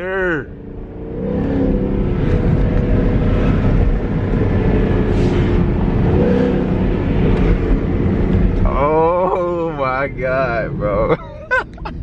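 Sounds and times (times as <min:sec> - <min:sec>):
car engine with loud exhaust: 0:00.0 - 0:12.0.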